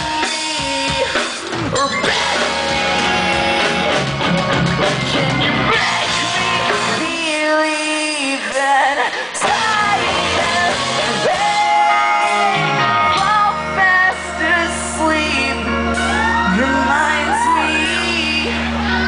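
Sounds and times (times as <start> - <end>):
bass guitar: 0.0 - 8.3, 9.4 - 19.0
electric guitar: 0.0 - 19.0
sung and shouted vocals: 0.0 - 19.0.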